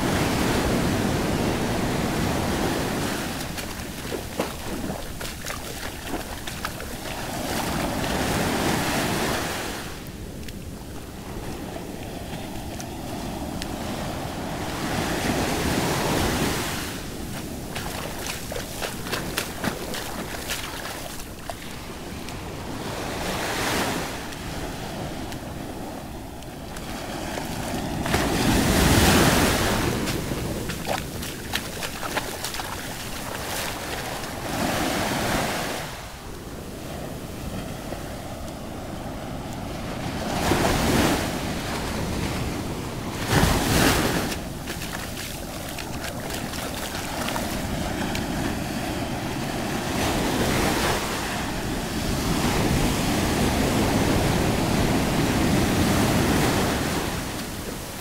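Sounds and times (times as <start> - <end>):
waves breaking on sandy beach: 0.0 - 58.0.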